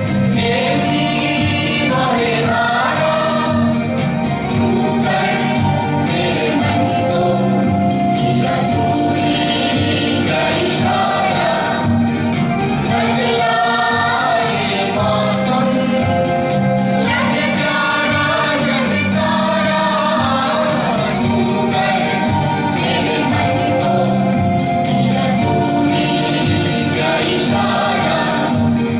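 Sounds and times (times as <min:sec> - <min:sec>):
song with held vocal notes: 0:00.0 - 0:28.9.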